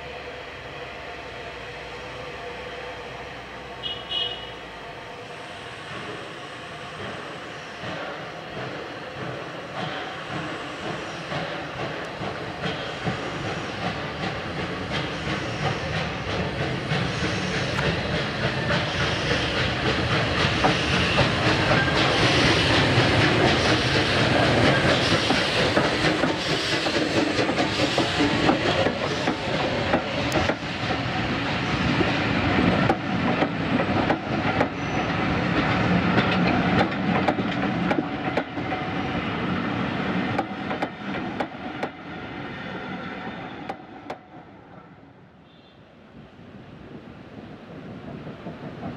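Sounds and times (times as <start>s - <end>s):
steam locomotive exhaust: 0.0s - 42.1s.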